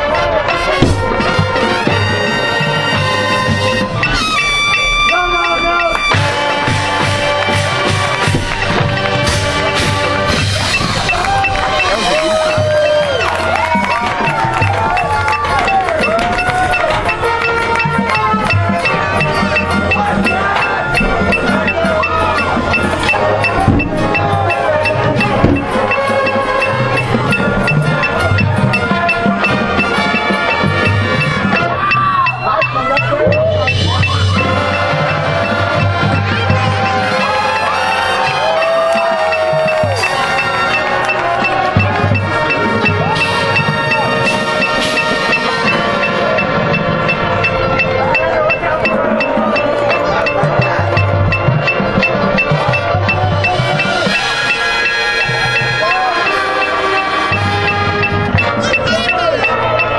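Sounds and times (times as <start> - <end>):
mallet percussion: 0.0 - 59.9
marching band playing: 0.0 - 59.9
sharp percussion strikes: 0.0 - 59.9
wind instrument chords: 0.0 - 59.9.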